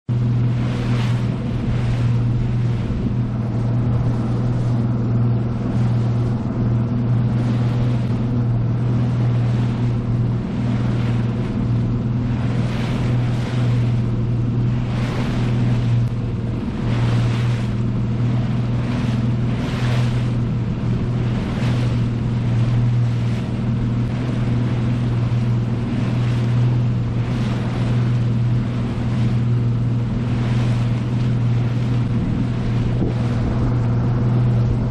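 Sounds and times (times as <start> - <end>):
outboard engine droning: 0.0 - 34.9.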